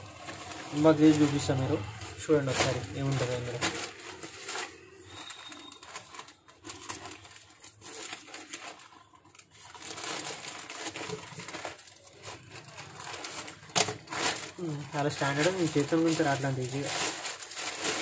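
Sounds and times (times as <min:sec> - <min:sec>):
plastic bag crinkling and tearing: 0:00.0 - 0:18.0.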